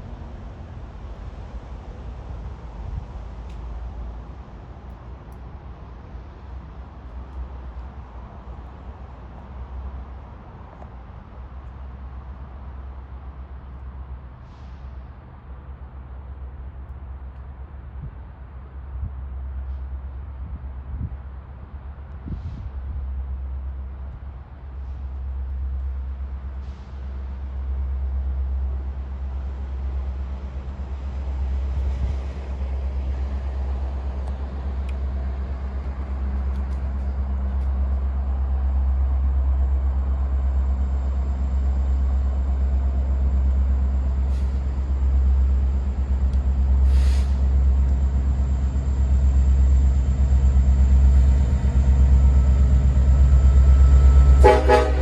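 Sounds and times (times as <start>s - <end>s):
diesel locomotive rumble: 0.0s - 55.0s.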